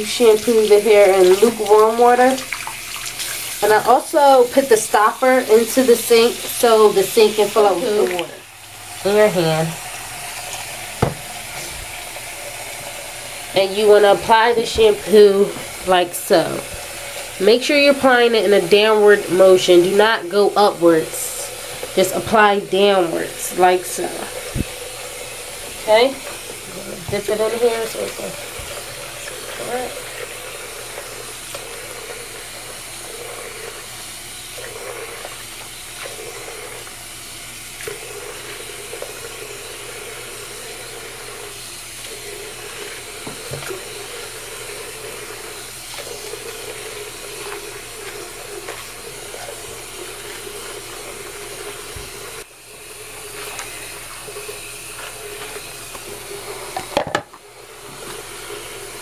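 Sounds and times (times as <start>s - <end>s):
tap water running into sink: 0.0s - 59.0s.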